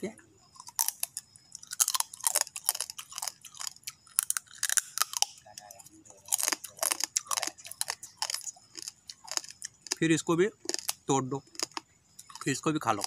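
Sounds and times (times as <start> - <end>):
crab shell crunching: 0.5 - 13.0.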